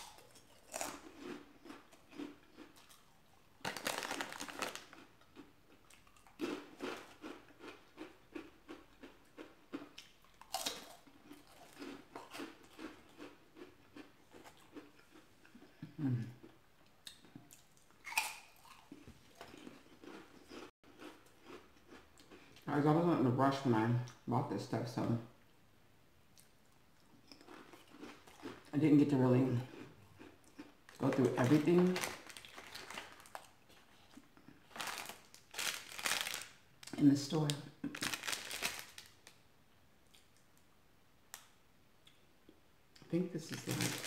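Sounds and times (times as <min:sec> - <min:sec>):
person chewing candy: 0:00.0 - 0:22.7, 0:26.4 - 0:39.4, 0:43.5 - 0:44.0.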